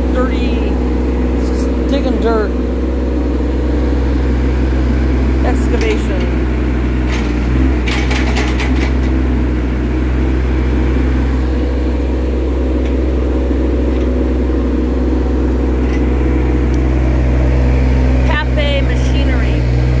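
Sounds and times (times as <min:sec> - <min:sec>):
diesel excavator engine running: 0:00.0 - 0:20.0.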